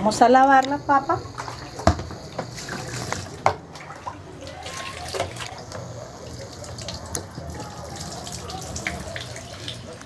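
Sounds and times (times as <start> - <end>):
tap water running and splashing: 1.1 - 10.0.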